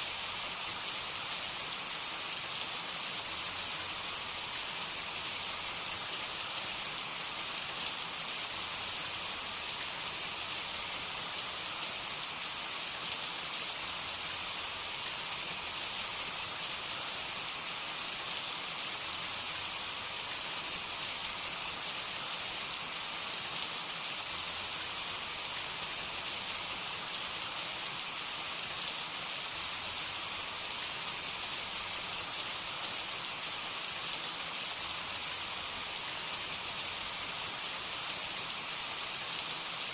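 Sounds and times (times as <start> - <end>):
hot oil sizzling: 0.0 - 39.9.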